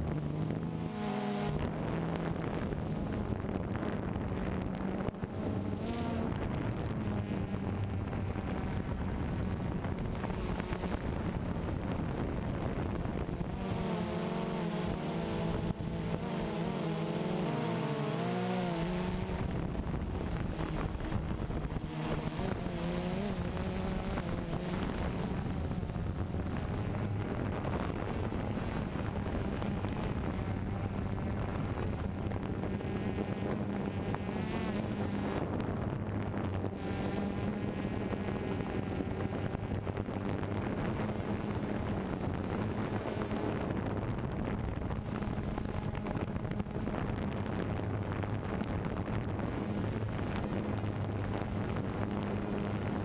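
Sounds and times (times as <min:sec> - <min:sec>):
drone propellers buzzing: 0:00.0 - 0:53.0.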